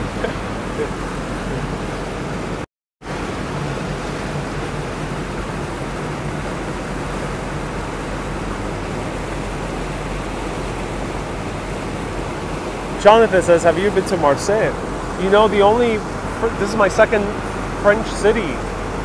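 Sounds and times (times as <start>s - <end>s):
low steady hum: 0.0s - 19.0s
water rushing: 0.0s - 19.0s
wind: 0.0s - 19.0s.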